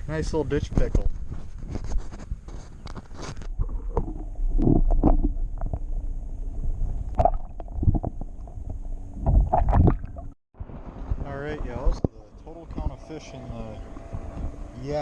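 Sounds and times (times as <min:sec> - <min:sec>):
constant low rumble: 0:00.0 - 0:15.0.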